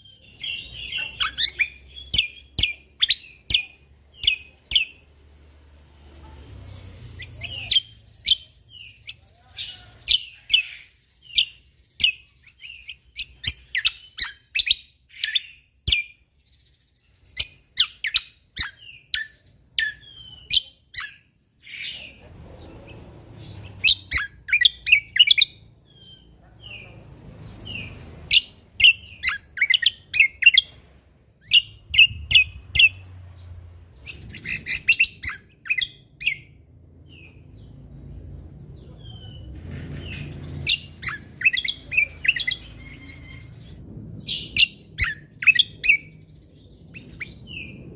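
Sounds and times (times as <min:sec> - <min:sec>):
songbird chirping and whistling: 0:00.0 - 0:05.1, 0:06.7 - 0:26.4, 0:27.4 - 0:37.8, 0:40.1 - 0:47.9.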